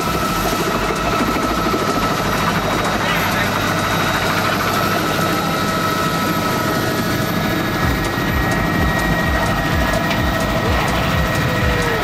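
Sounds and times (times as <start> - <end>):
helicopter rotor thumping: 0.0 - 12.0
helicopter turbine whine: 0.0 - 12.0.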